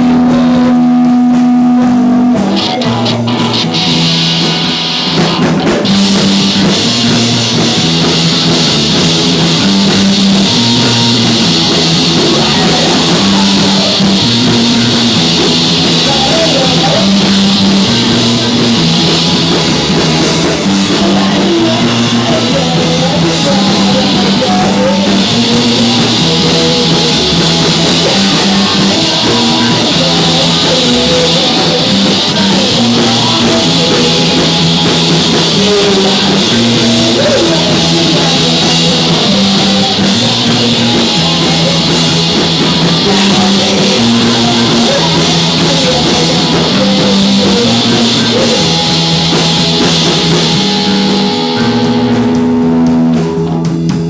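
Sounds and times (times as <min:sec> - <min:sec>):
live rock band playing: 0:00.0 - 0:54.0
repeating bass line: 0:00.0 - 0:54.0.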